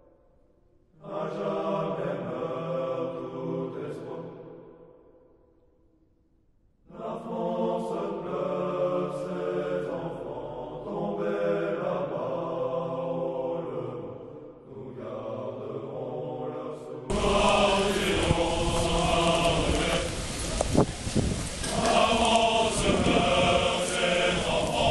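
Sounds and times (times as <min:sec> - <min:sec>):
group of men singing: 0:01.0 - 0:04.4, 0:06.9 - 0:20.6, 0:21.6 - 0:24.9.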